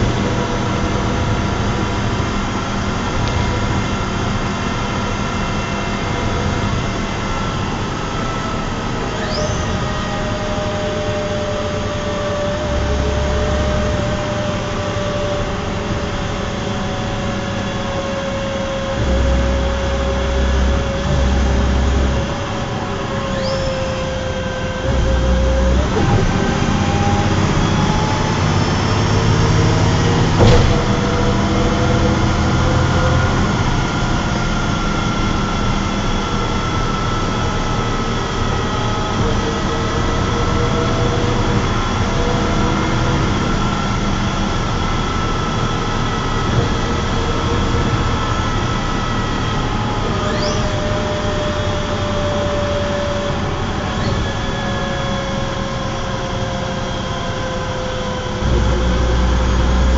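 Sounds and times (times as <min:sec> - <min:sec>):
bus diesel engine whining: 0:00.0 - 0:59.9
heavy low rumbles: 0:00.0 - 0:59.9.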